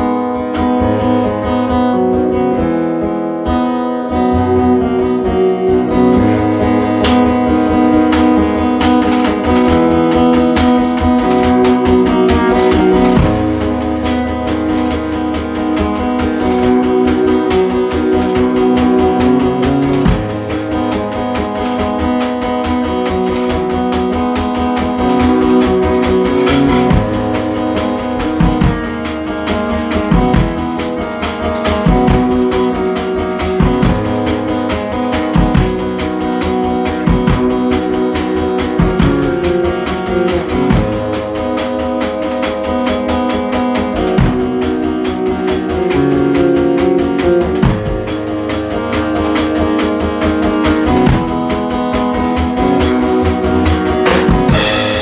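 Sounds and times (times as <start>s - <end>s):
guitar strummed and picked: 0.0s - 55.0s.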